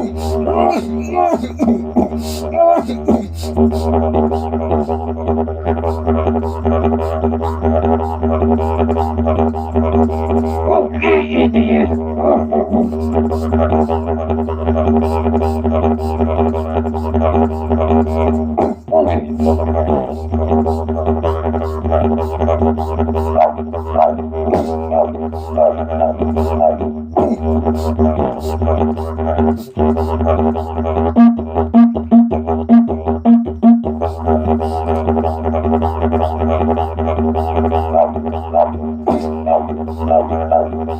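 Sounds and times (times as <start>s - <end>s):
didgeridoo drone: 0.0s - 40.9s
higher rising didgeridoo sound: 0.0s - 40.9s.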